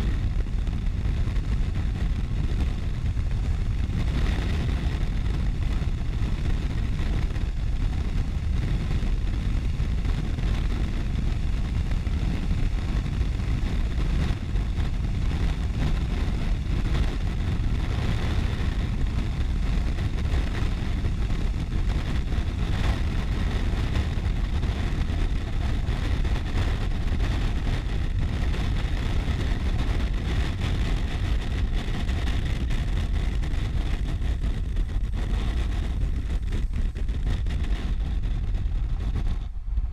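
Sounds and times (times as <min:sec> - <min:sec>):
motorcycle engine and tyres: 0:00.0 - 0:39.9
wind noise on microphone: 0:00.0 - 0:39.9.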